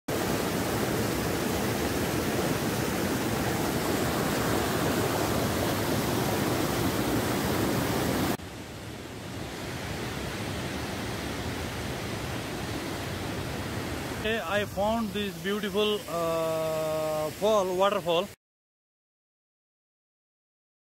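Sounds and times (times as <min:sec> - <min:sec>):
distant waterfall rushing: 0:00.1 - 0:18.4
water rushing over rocks: 0:00.1 - 0:18.4.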